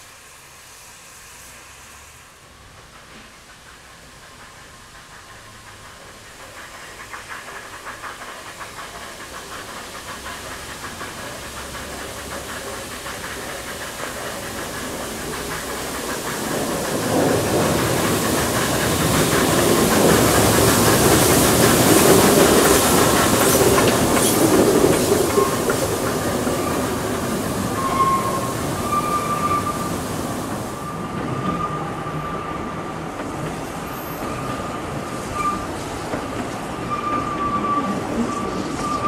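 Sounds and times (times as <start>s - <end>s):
hiss of steam: 0.0s - 39.0s
steam locomotive passing: 0.0s - 39.0s
train wheels clicking over rail joints: 0.0s - 39.0s.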